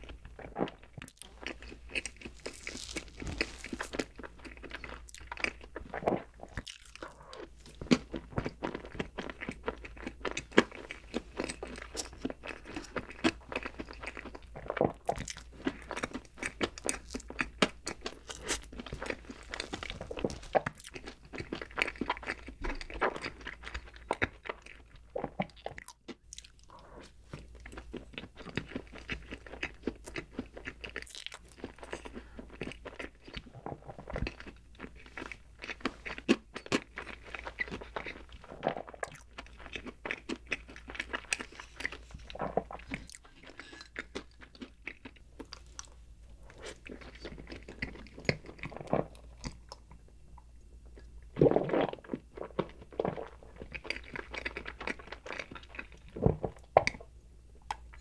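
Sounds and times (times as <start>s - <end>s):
person chewing cake: 0.0s - 58.0s.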